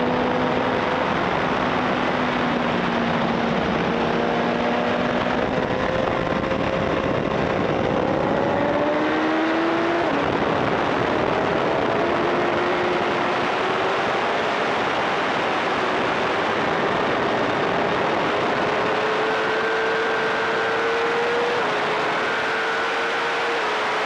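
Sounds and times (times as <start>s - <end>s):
motorcycle engine climbing: 0.0s - 24.0s
wind rush over microphone: 0.0s - 24.0s.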